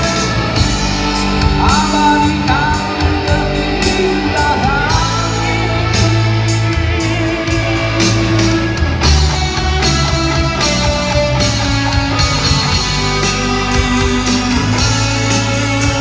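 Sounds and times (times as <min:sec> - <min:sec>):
electric guitar lead bending: 0:00.0 - 0:16.0
rock band playing: 0:00.0 - 0:16.0.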